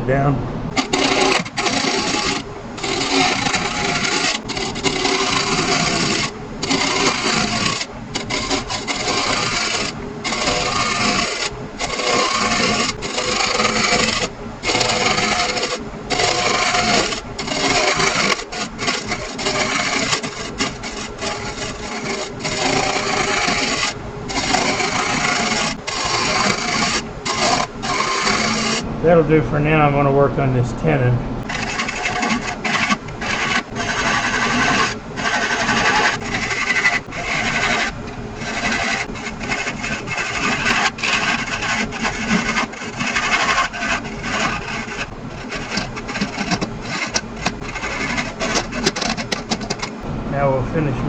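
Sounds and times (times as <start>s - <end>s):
lathe gouge shaving wood: 0.7s - 30.1s, 31.4s - 50.0s.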